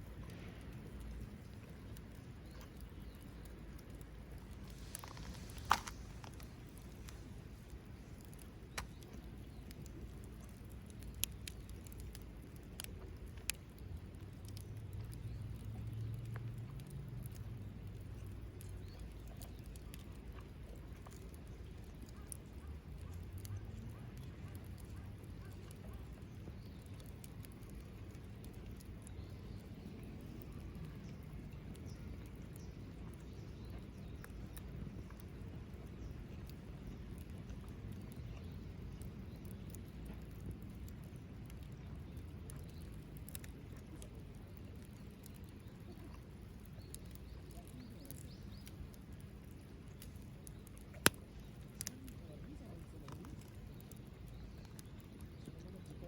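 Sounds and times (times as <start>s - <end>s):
low steady rumble: 0.0s - 55.4s
wood fire crackling and popping: 0.0s - 56.0s.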